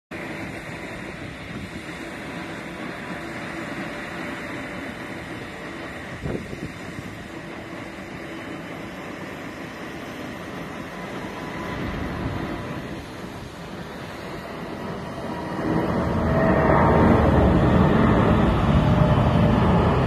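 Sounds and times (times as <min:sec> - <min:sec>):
jet engine rumble: 0:00.1 - 0:20.0.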